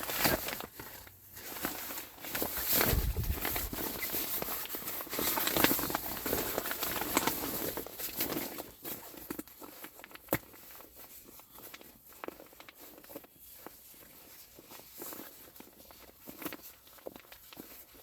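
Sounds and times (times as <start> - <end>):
sleeping pad rustling and crinkling: 0.0 - 18.0.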